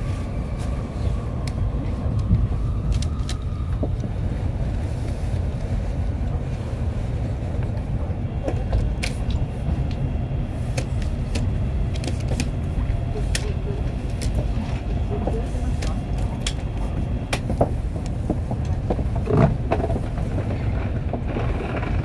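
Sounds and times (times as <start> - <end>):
train cabin low rumble: 0.0 - 22.0.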